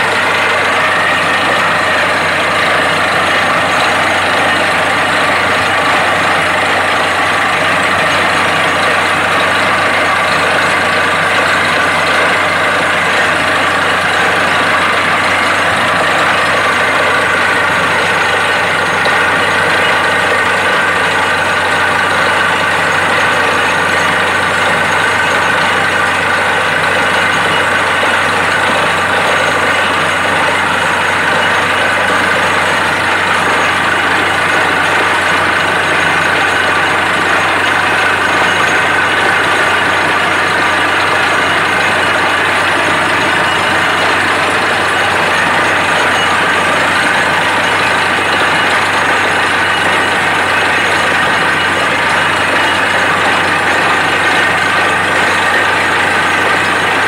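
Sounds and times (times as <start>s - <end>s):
drilling rig running: 0.0s - 57.0s
high machine whine: 0.0s - 57.0s.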